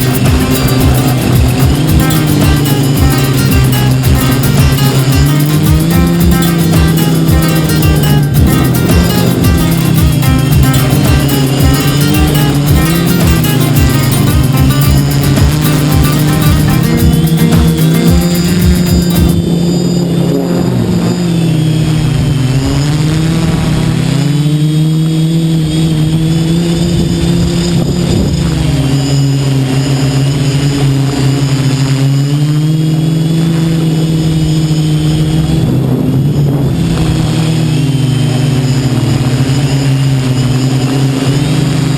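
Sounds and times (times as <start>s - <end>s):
quadcopter propellers buzzing: 0.0s - 41.9s.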